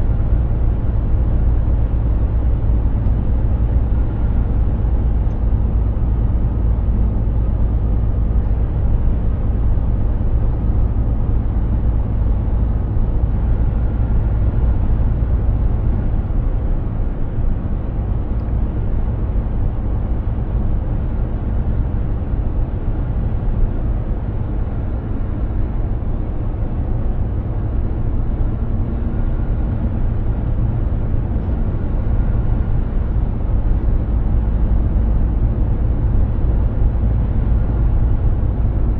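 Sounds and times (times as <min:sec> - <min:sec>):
road noise: 0:00.0 - 0:38.9
truck engine rumble: 0:00.0 - 0:38.9.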